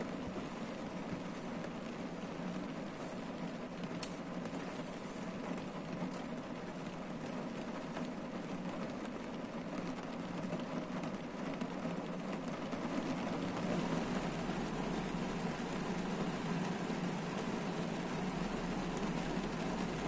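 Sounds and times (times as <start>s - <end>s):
rain on car roof: 0.0s - 20.0s.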